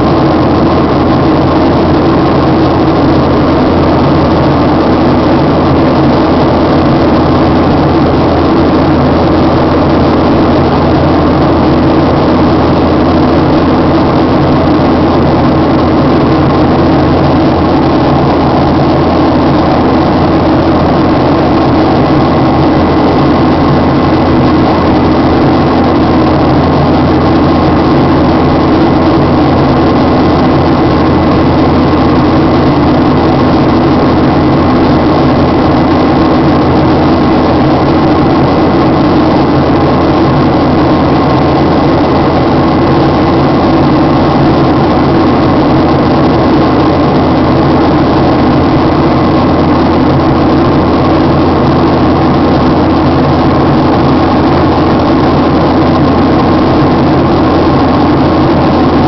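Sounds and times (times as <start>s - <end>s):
airliner cabin engine noise: 0.0s - 59.0s.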